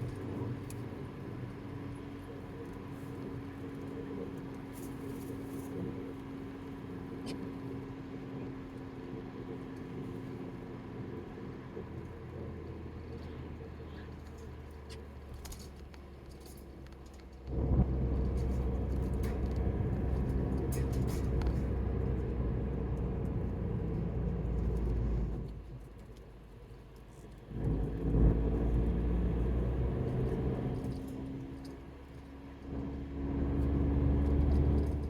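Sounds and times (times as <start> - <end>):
car road noise and engine rumble: 0.0 - 35.0.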